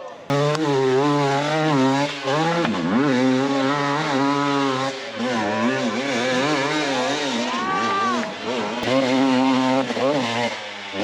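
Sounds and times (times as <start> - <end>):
motorcycle engine revving hard: 0.3 - 11.0.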